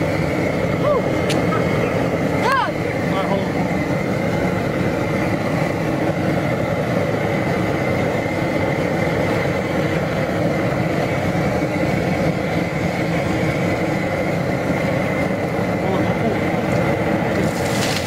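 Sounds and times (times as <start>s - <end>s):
gas burner rushing and humming: 0.0s - 18.0s.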